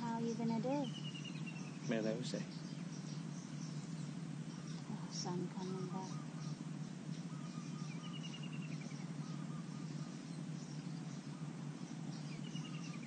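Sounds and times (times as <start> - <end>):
bird calling high notes: 0.0 - 13.0
low background hum: 0.0 - 13.0
soft bird chirps: 0.0 - 13.0.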